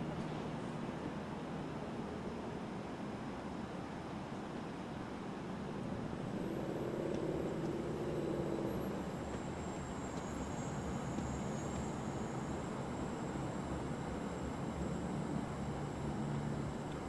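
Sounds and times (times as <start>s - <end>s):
faint train whine: 0.0s - 17.0s
train low rumble: 0.0s - 17.0s.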